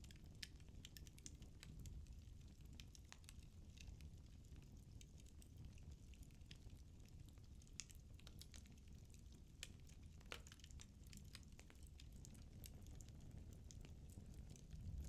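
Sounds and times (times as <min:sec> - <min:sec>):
firewood crackling and popping: 0:00.0 - 0:15.0
low steady rumble of fire: 0:00.0 - 0:15.0.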